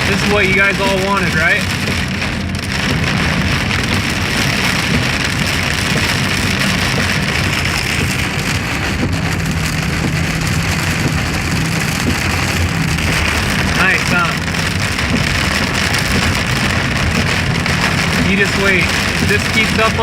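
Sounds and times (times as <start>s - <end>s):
car engine and tyres humming: 0.0s - 20.0s
heavy rain on a car: 0.0s - 20.0s.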